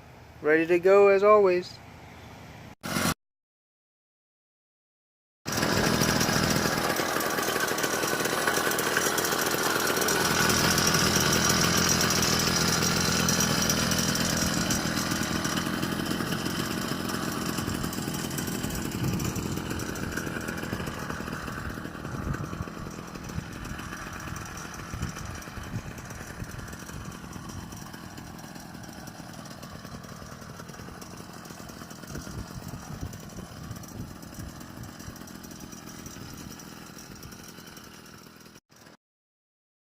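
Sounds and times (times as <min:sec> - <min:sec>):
two-stroke engine buzzing: 0:05.5 - 0:39.0.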